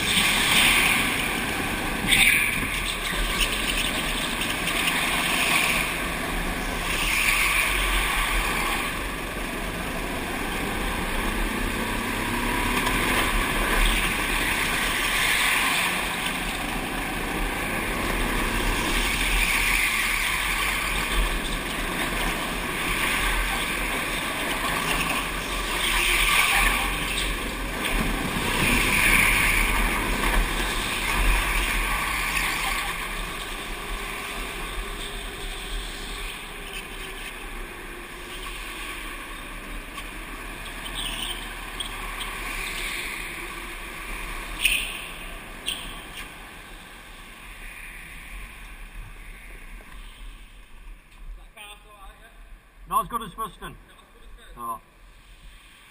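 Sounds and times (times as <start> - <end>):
go-kart engine running: 0.0 - 50.7.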